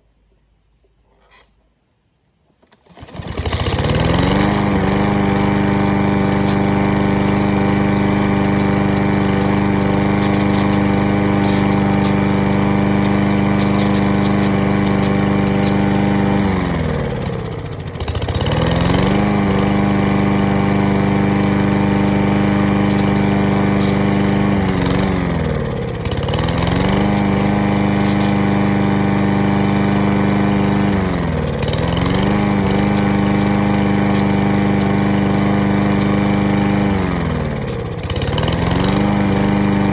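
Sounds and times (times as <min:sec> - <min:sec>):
lawn mower engine running: 0:02.7 - 0:39.9.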